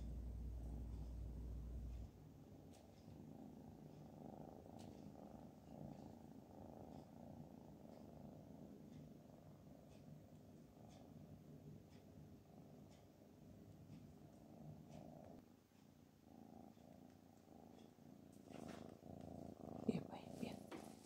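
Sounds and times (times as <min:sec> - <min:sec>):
soft ticks: 0:00.0 - 0:20.9
cat purring: 0:00.0 - 0:21.0.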